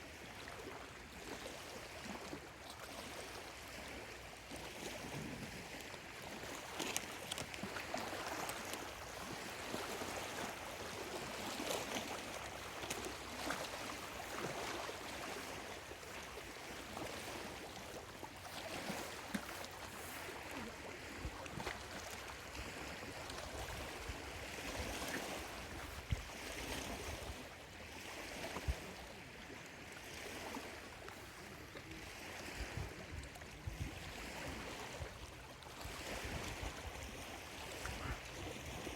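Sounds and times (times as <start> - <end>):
lake waves lapping at shore: 0.0 - 38.9.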